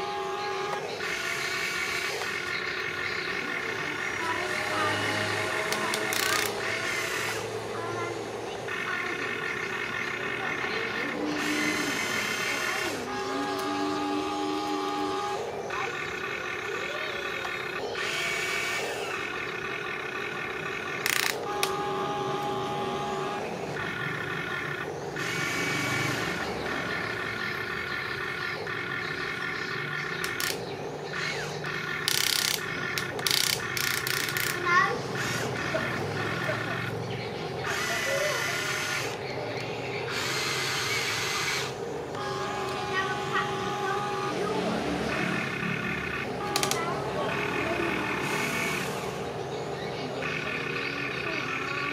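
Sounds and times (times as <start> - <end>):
electric motors whining: 0.0 - 51.9.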